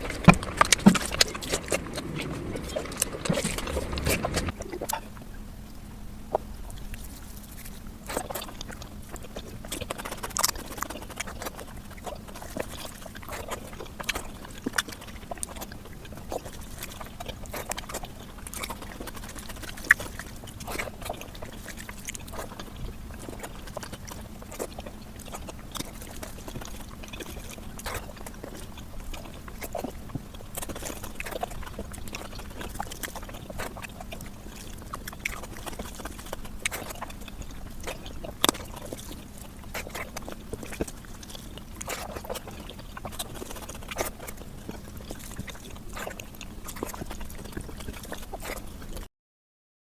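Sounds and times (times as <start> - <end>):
sped-up wet chewing and smacking: 0.0 - 5.3, 6.2 - 49.1
faint steady hum: 0.0 - 49.1.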